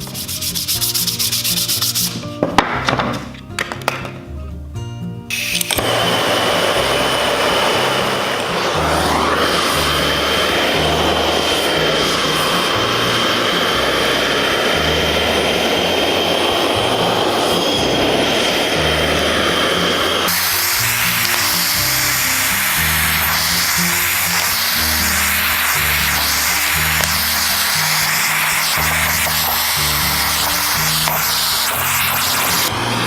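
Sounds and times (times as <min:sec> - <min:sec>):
power tool whining: 0:05.3 - 0:33.0.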